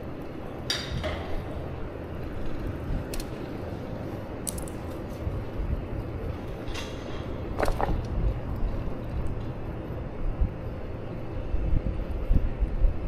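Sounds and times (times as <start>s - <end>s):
wheels rolling over paving: 0.0s - 12.8s.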